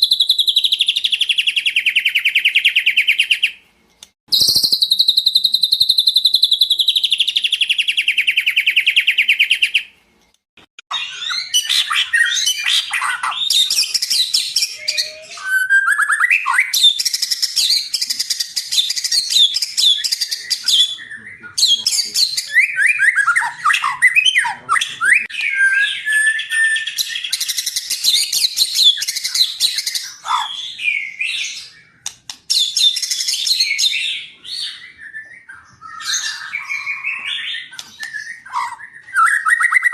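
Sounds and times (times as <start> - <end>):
bird singing trills and whistles: 0.0 - 3.6, 4.3 - 9.9, 10.9 - 39.9.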